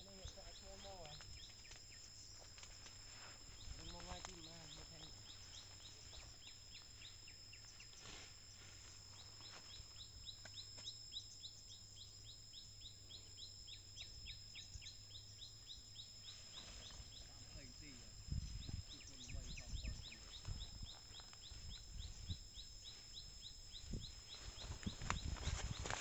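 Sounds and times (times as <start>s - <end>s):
faint high-pitched whine: 0.0s - 26.0s
low hum: 0.0s - 26.0s.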